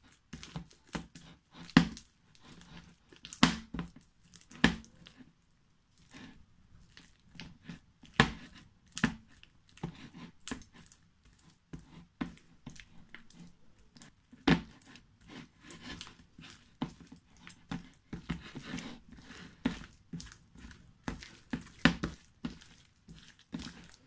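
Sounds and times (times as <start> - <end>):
slime squishing with sticky pops: 0.0 - 5.2, 6.0 - 24.0.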